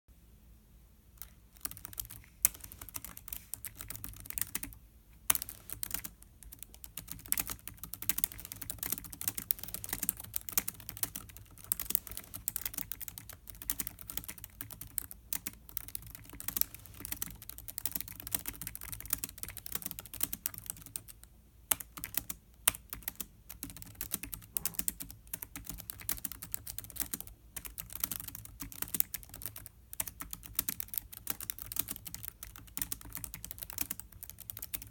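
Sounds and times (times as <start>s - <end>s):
typing on laptop keyboard: 1.2s - 34.9s.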